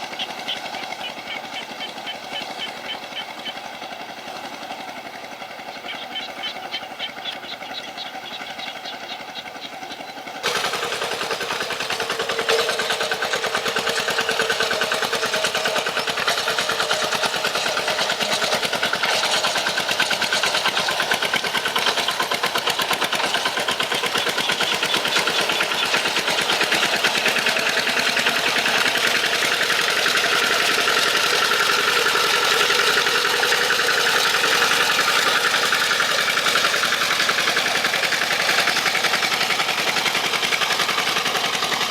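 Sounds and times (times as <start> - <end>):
tractor engine chugging: 0.0 - 41.9.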